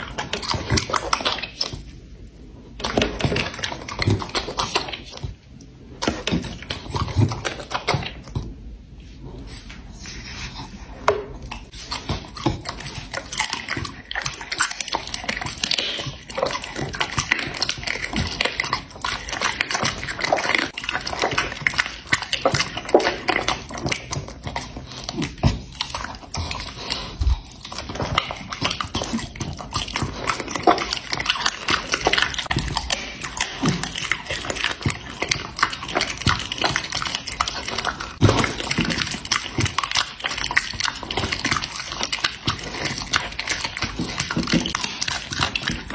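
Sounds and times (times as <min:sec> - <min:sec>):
dog chewing raw meat: 0:00.0 - 0:08.6, 0:10.6 - 0:45.9.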